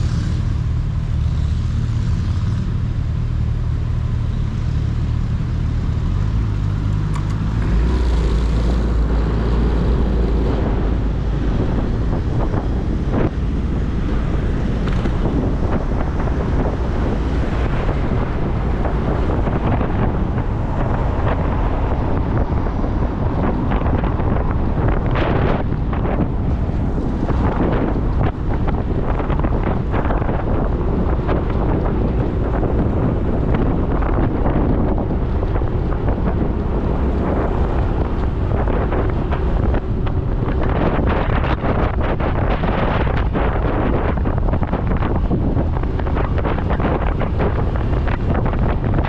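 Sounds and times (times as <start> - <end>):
wind buffeting microphone: 1.7 - 49.0.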